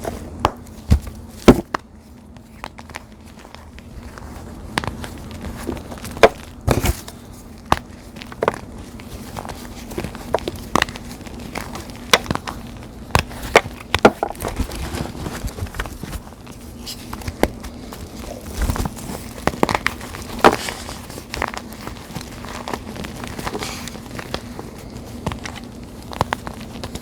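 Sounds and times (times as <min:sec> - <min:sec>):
chalk blocks crunching and crumbling: 0:00.0 - 0:27.0.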